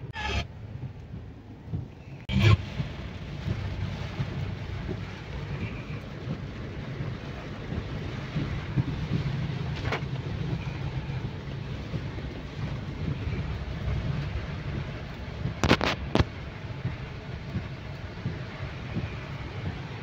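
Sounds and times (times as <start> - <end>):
car engine and road rumble: 0.0 - 20.0
rain and tyres hissing on wet road: 0.2 - 20.0.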